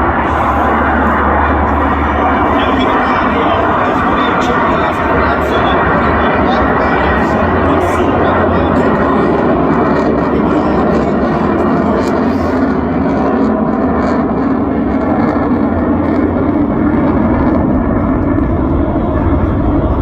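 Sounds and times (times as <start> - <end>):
fighter jet engines roaring: 0.0 - 20.0.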